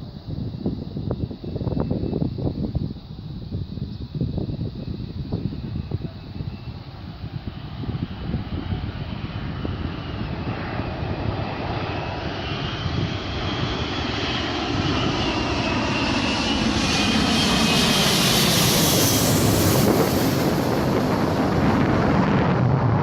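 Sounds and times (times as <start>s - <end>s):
jet airliner landing: 0.0s - 23.0s.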